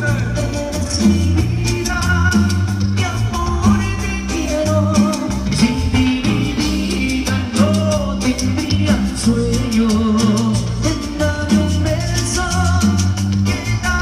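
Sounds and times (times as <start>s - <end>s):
amplified lead singer: 0.0s - 14.0s
cumbia band playing: 0.0s - 14.0s.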